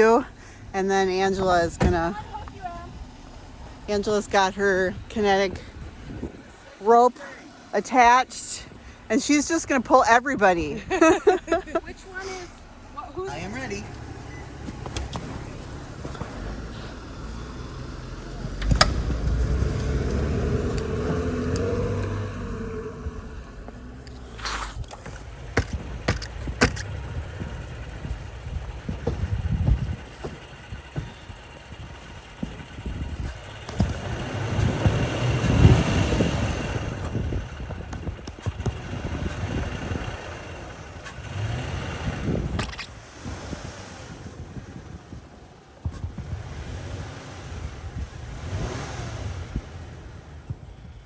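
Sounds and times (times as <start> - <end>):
car engine revving under load: 0.0 - 51.0.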